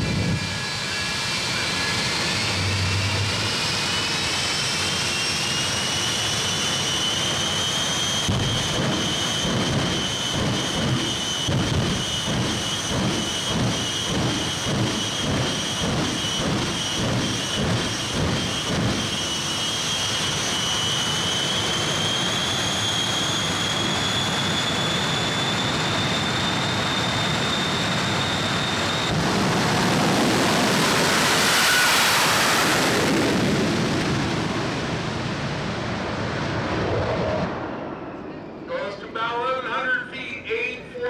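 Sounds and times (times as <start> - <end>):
jet rush: 0.0 - 40.6
jet engine whine: 0.0 - 41.0.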